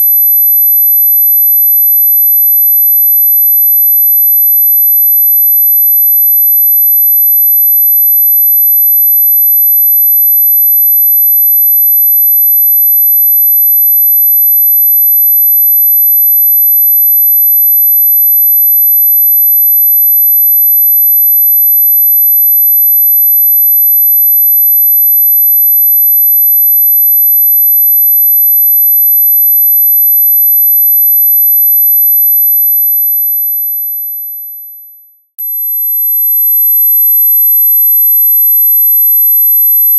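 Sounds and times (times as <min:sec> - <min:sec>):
high pure sine tone: 0:00.0 - 0:39.9.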